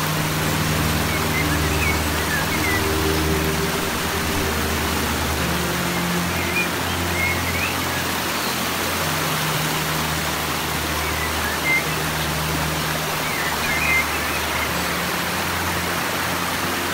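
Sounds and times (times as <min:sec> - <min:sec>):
background music with low notes: 0:00.0 - 0:16.9
stream cascading over rocks: 0:00.0 - 0:16.9
waterfall rushing hiss: 0:00.0 - 0:16.9.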